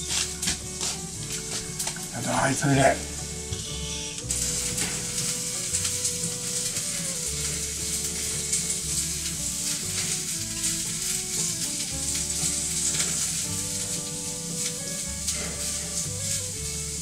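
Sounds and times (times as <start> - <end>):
slow melody of held notes: 0.0 - 17.0
steady high hiss: 0.0 - 17.0
stepping bass notes: 0.0 - 17.0.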